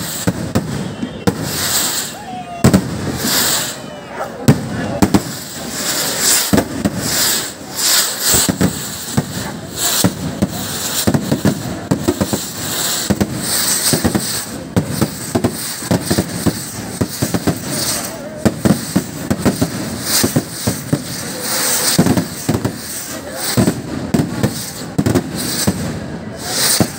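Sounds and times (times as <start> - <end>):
fireworks bangs and crackles: 0.0 - 26.9.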